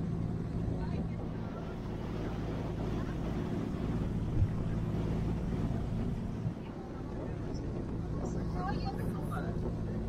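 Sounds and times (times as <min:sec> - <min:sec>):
ferry engine humming: 0:00.0 - 0:10.0
wash of boat wake: 0:00.0 - 0:10.0
wind on microphone: 0:00.0 - 0:10.0.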